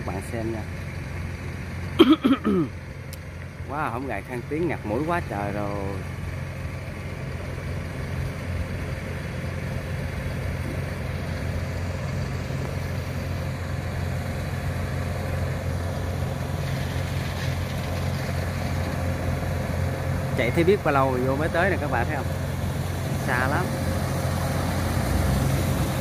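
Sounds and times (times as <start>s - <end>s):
combine harvester diesel engine: 0.0s - 26.0s.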